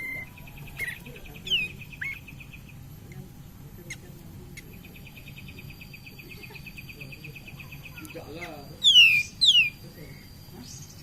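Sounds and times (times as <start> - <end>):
bird chattering trill: 0.0 - 2.9, 3.8 - 9.9.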